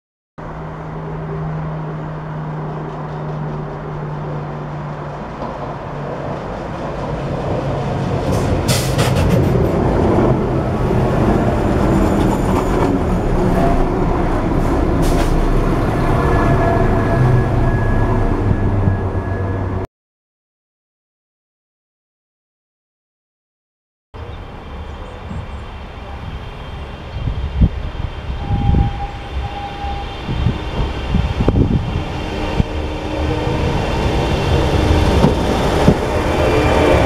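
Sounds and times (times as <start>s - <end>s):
diesel train engine hum: 0.4s - 19.8s, 24.2s - 37.0s
wheels rumbling on rails: 0.4s - 19.8s, 24.2s - 37.0s.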